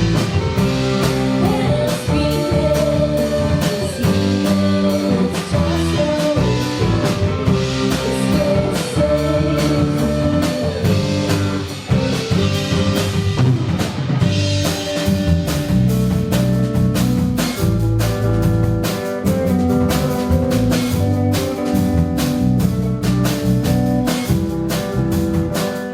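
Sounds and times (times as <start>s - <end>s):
drum kit beat: 0.0s - 25.9s
guitar: 0.0s - 25.9s.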